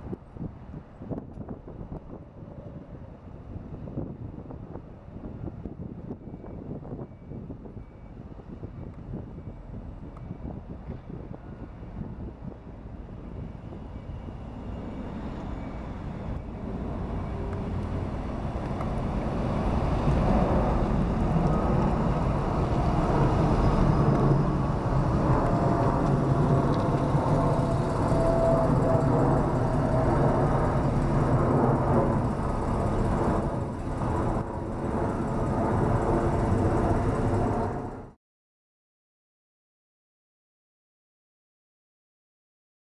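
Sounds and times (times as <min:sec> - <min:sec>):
faint steady jet whine: 0:00.0 - 0:38.2
jet engine rumble overhead: 0:00.0 - 0:38.2.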